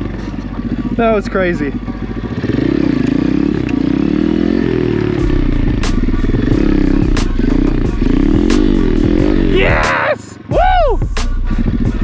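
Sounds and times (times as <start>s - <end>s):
pit bike engine revving: 0.0s - 10.0s.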